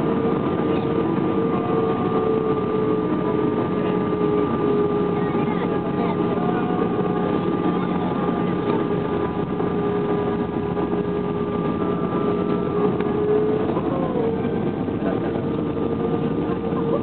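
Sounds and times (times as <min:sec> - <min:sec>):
engine whine: 0:00.0 - 0:17.0
jet engine cabin noise: 0:00.0 - 0:17.0.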